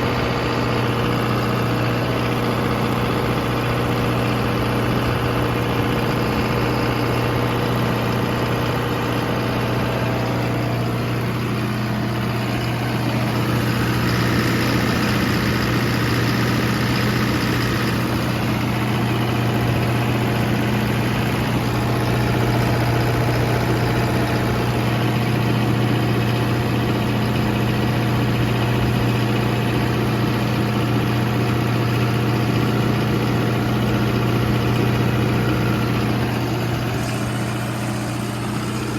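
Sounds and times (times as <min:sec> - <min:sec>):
diesel generator engine running: 0:00.0 - 0:38.9.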